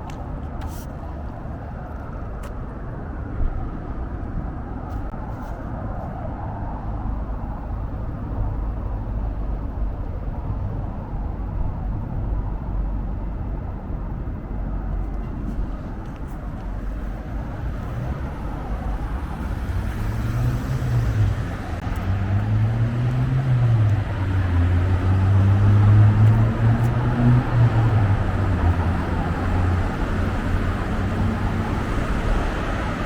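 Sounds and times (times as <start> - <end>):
road traffic rumble: 0.0 - 33.0
vehicle engine: 0.0 - 33.0.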